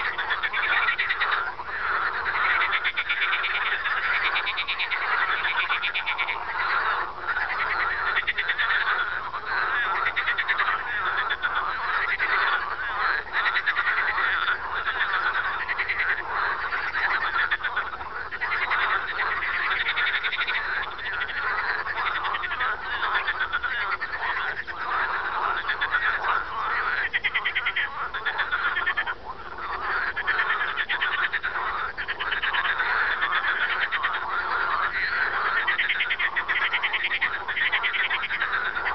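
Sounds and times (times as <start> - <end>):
frog laugh-like call: 0.0 - 38.9
frogs chorus: 0.0 - 38.9.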